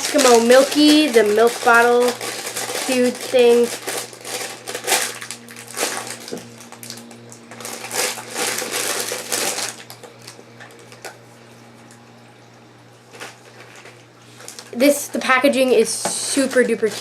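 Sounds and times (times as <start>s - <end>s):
plastic packaging crinkling: 0.0s - 11.2s, 13.0s - 17.0s
low steady hum: 0.0s - 17.0s.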